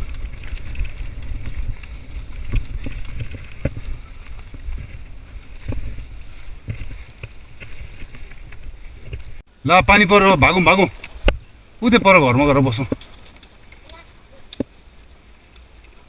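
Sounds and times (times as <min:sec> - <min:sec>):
bike clicks and knocks: 0:00.0 - 0:09.5, 0:12.4 - 0:16.0
wind rumbling on microphone: 0:00.0 - 0:16.0.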